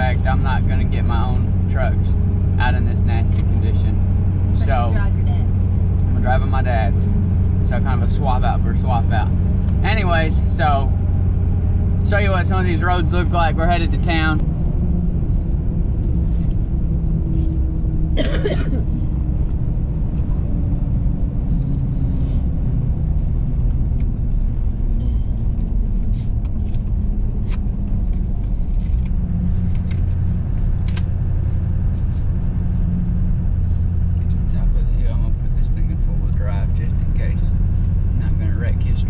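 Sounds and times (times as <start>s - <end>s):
engine and road rumble: 0.0s - 39.0s.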